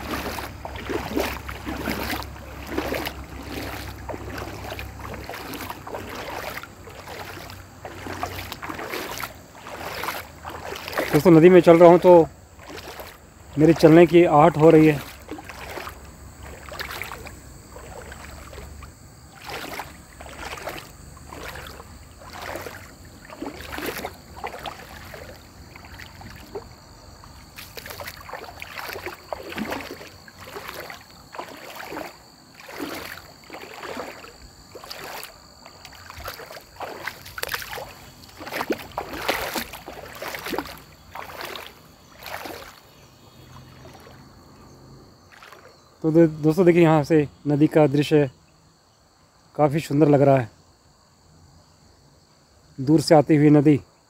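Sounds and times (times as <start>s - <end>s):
footsteps wading through water: 0.0s - 44.5s, 45.2s - 46.9s.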